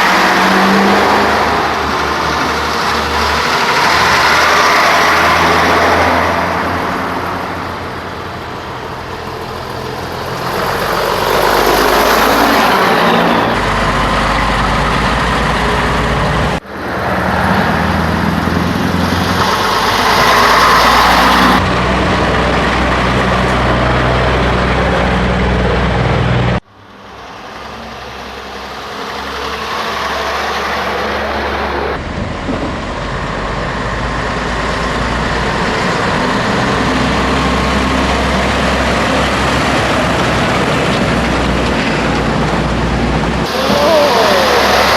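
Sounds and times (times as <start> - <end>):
truck diesel engine running: 0.0 - 44.9.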